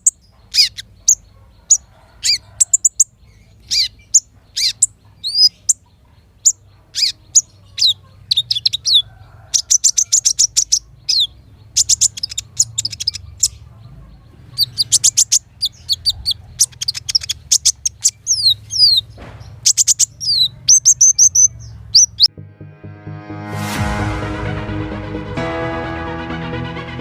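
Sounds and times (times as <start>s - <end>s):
bird singing high chirps and trills: 0.0s - 22.3s.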